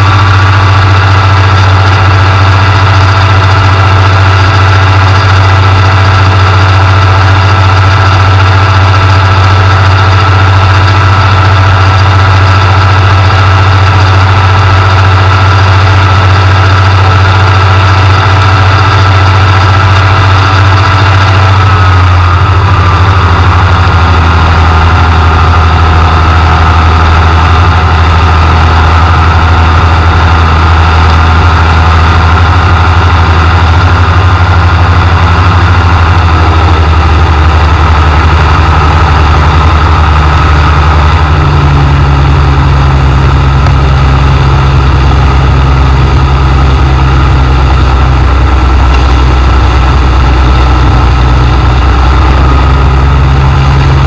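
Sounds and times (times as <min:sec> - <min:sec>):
ultralight aircraft engine and propeller: 0:00.0 - 0:54.0.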